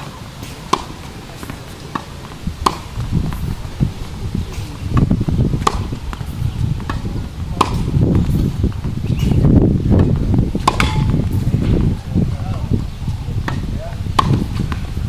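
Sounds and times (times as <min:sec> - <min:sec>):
tennis racket hitting ball: 0:00.0 - 0:09.4, 0:10.0 - 0:11.9, 0:13.4 - 0:15.0
low rumble: 0:02.0 - 0:15.0.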